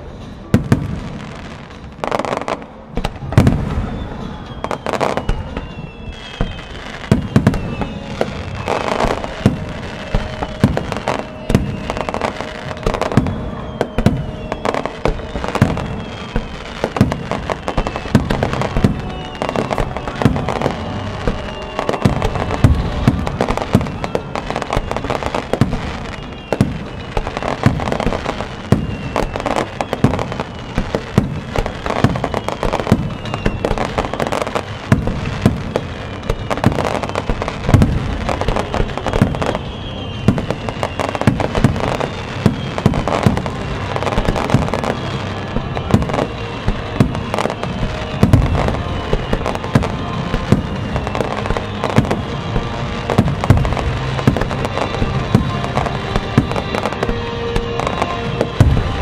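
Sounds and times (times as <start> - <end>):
fireworks bursting: 0.0 - 59.0
music playing: 0.0 - 59.0.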